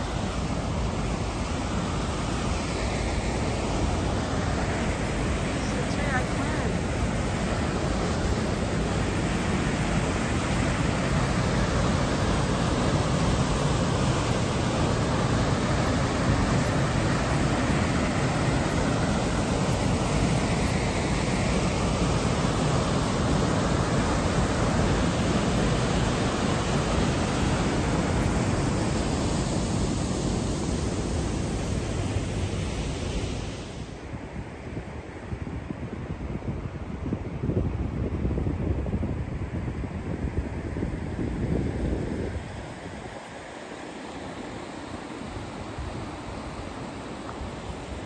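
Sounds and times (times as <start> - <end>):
waterfall and river rushing: 0.0 - 36.2, 40.6 - 48.0.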